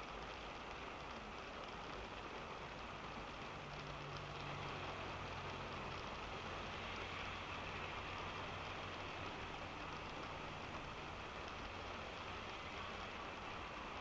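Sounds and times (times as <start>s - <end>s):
rain pattering on car roof: 0.0s - 14.0s
engine and road hum: 0.1s - 14.0s.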